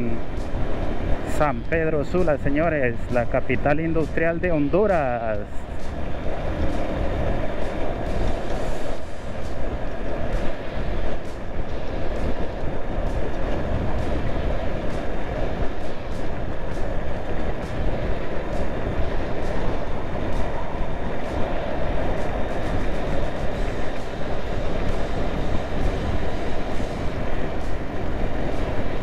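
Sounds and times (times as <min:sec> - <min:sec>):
wind rush on microphone: 0:00.0 - 0:29.0.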